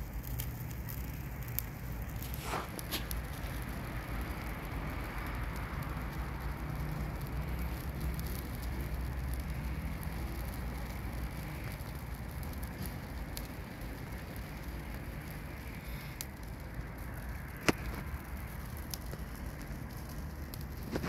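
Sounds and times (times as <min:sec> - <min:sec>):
fire burning with crackles: 0:00.0 - 0:21.0.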